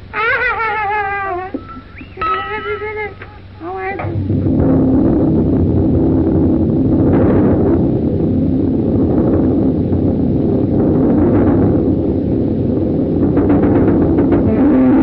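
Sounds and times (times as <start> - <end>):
low droning tones: 0.0 - 15.0
cartoon explosion rumble: 0.2 - 15.0.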